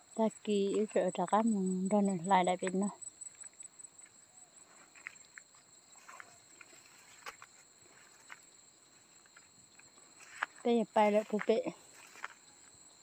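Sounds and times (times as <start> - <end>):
soft ticks and rustles: 0.5 - 12.8.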